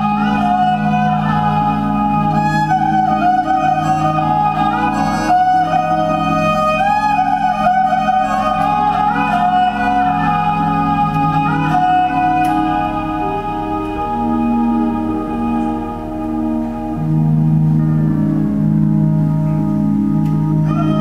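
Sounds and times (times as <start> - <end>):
erhu slow melody: 0.0 - 21.0
sustained low accompaniment: 0.0 - 21.0.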